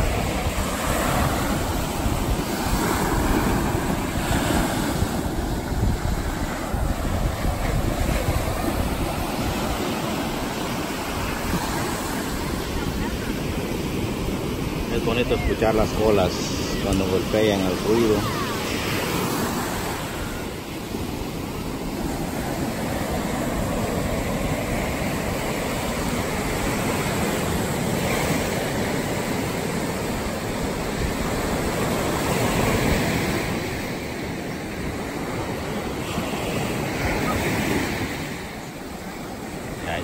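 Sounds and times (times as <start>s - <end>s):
surf breaking on a beach: 0.0s - 40.0s.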